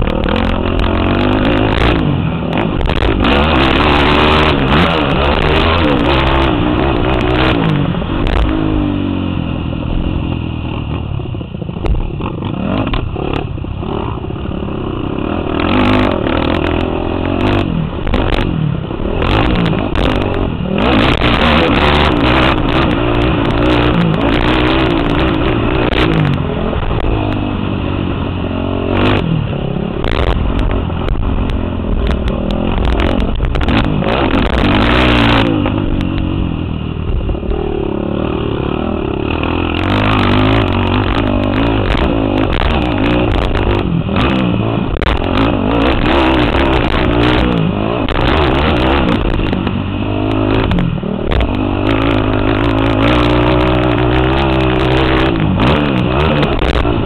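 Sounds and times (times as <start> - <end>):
knocks and clatter over bumps: 0.0 - 8.9, 10.7 - 27.6, 28.5 - 37.7, 38.4 - 57.0
quad engine revving: 0.0 - 57.0.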